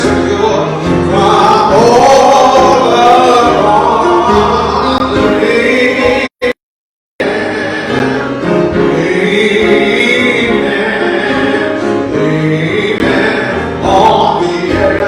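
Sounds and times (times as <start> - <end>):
gospel choir singing: 0.0 - 6.6, 7.2 - 15.0
musical accompaniment: 0.0 - 6.6, 7.2 - 15.0.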